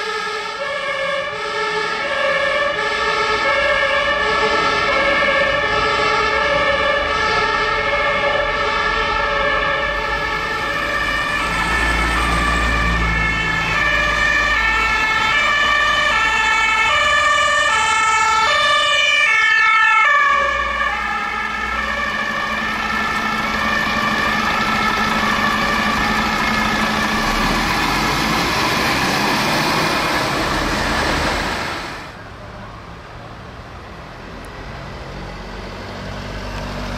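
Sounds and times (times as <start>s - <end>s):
two-tone sirens: 0.0s - 36.9s
vehicle engine noise: 3.1s - 19.2s, 20.4s - 36.9s.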